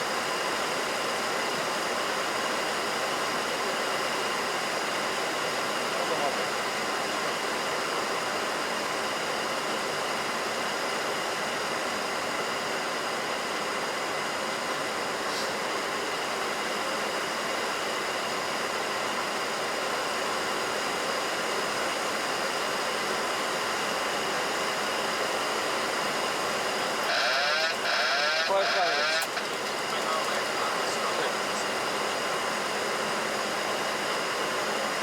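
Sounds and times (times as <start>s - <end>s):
airflow and engine noise: 0.0s - 35.0s.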